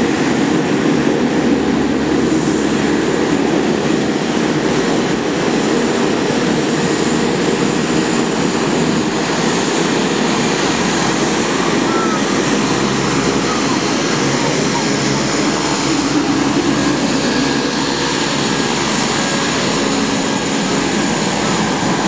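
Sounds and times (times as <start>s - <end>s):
propeller engines droning: 0.0s - 22.0s.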